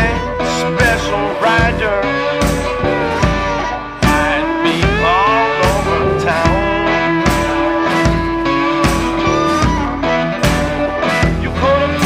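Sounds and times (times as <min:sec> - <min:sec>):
guitar: 0:00.0 - 0:12.0
rock music: 0:00.0 - 0:12.0
steady drum beat: 0:00.0 - 0:12.0.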